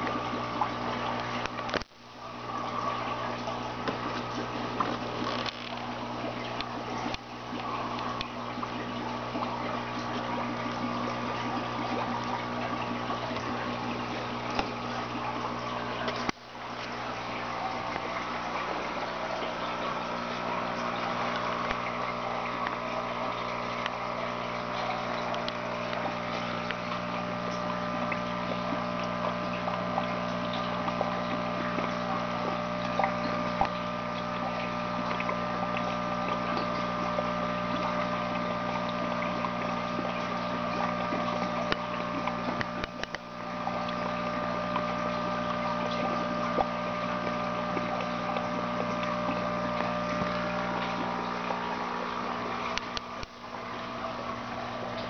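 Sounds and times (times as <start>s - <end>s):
electric pump humming: 0.0s - 55.0s
water bubbling: 0.0s - 55.0s.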